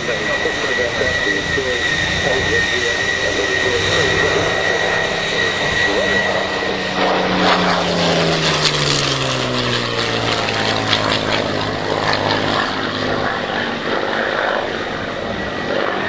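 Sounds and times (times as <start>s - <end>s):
propeller plane engine passing by: 0.0s - 16.0s.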